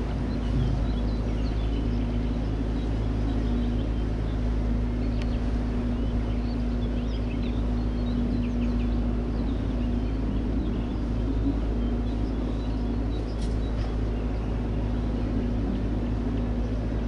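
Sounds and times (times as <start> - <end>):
birds chirping: 0.0 - 17.0
boat engine droning: 0.0 - 17.0.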